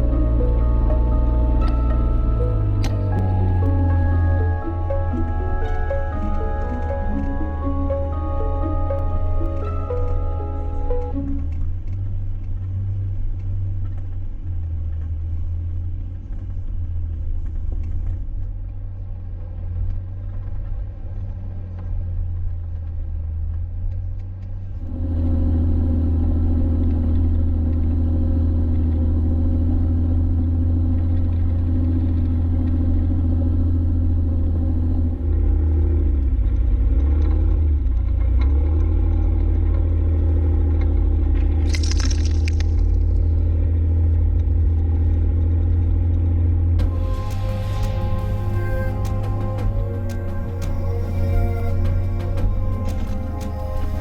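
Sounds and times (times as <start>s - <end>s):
vehicle engine and road rumble: 0.0s - 54.0s.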